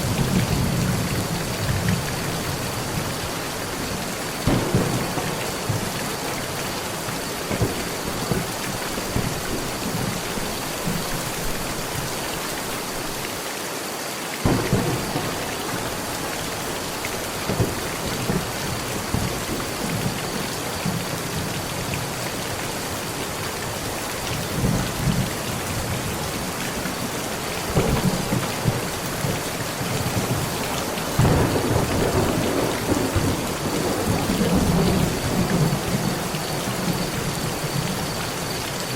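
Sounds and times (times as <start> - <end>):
thunder rumbling: 0.0 - 12.2, 14.4 - 22.1, 24.5 - 38.9
rain on a metal roof: 0.0 - 38.9.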